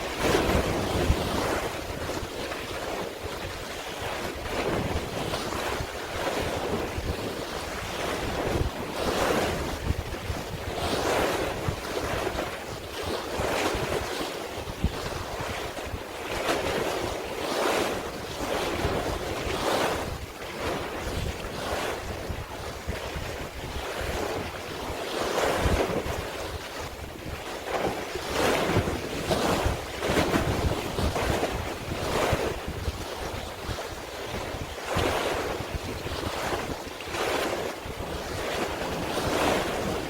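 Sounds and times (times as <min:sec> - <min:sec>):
sea waves washing: 0:00.0 - 0:40.0
wind buffeting microphone: 0:00.0 - 0:40.0.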